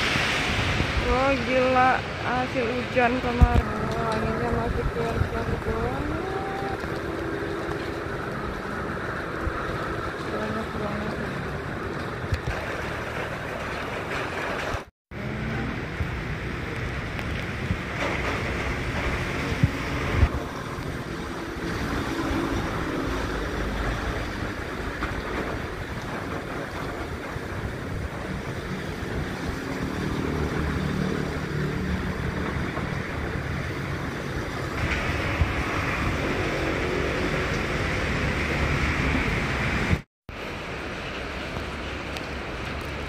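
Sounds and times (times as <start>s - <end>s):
heavy rain: 0.0s - 43.0s
strong wind: 0.0s - 43.0s
traffic on wet road: 0.0s - 43.0s.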